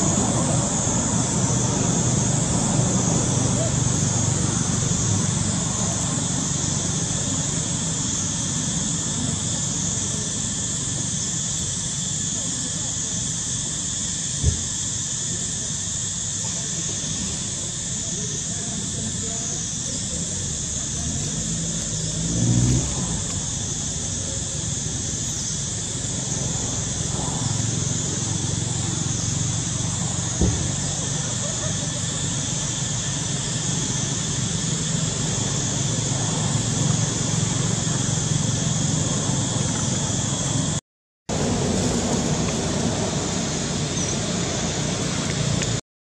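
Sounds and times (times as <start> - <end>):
continuous high hiss: 0.0 - 45.8
road traffic rumble: 0.0 - 45.8.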